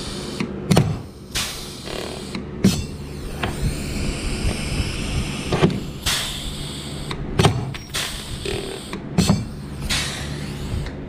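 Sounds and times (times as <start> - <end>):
compressed air hiss: 0.0 - 0.5, 1.1 - 2.4, 3.0 - 11.0.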